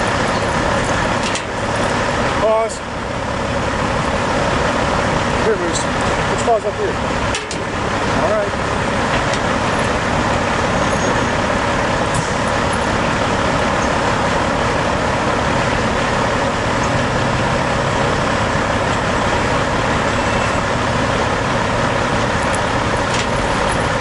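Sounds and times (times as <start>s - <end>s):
road traffic rush: 0.0s - 24.0s.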